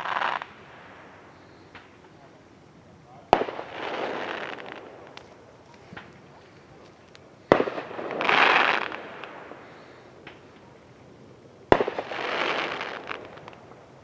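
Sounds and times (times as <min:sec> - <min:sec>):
firework bangs: 0:00.0 - 0:02.3, 0:03.2 - 0:14.0
firework crackling hiss: 0:00.0 - 0:14.0.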